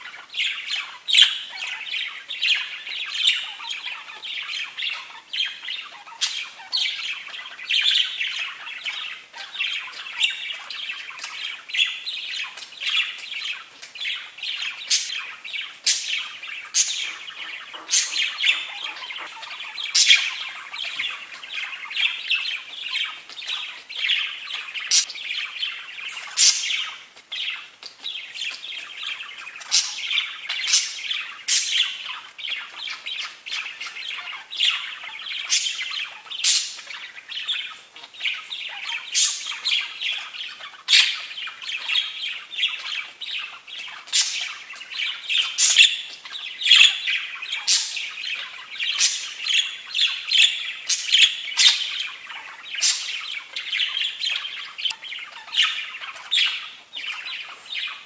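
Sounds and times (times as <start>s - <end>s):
budgerigars chattering: 0.0s - 58.0s
sharp high bird chirps: 0.0s - 58.0s.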